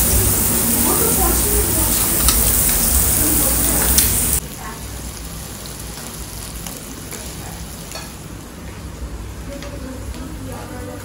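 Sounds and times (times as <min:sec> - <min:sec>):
meat sizzling on grill pan: 0:00.0 - 0:08.9
loud steady hiss: 0:00.0 - 0:11.0.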